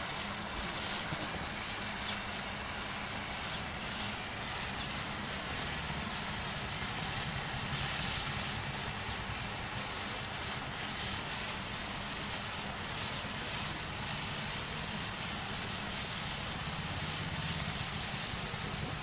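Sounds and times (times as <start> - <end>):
eggs frying in a pan: 0.0 - 19.0.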